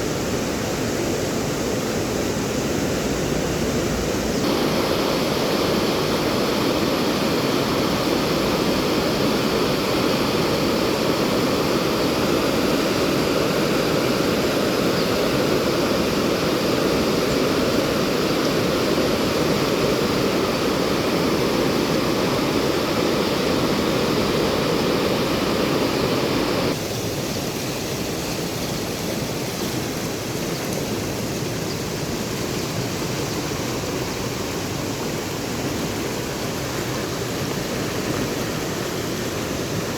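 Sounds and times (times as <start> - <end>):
fast-flowing water rushing: 0.0 - 39.9.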